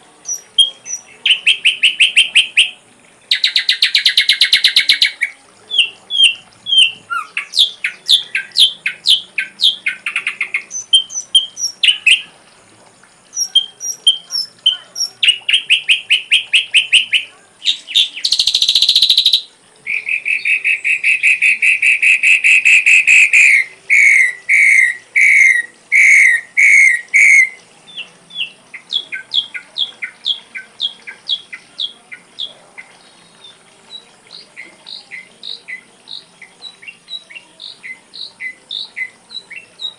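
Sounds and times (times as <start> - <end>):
bird singing varied song: 0.0 - 12.4, 13.2 - 39.9.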